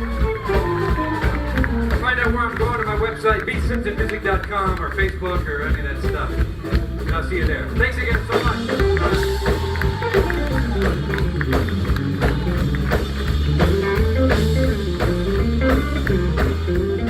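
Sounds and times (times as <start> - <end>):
bass line: 0.0 - 17.0
drum kit hits: 0.0 - 17.0
melodic instrumental line: 0.0 - 17.0.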